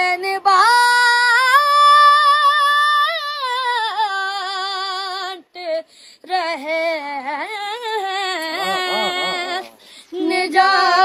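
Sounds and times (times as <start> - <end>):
boy singing unaccompanied lament: 0.0 - 11.0.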